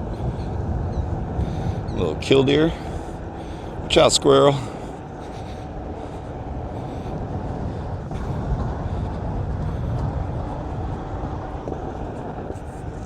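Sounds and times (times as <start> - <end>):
electric board rolling on road: 0.0 - 13.0
wind on microphone: 0.0 - 13.0.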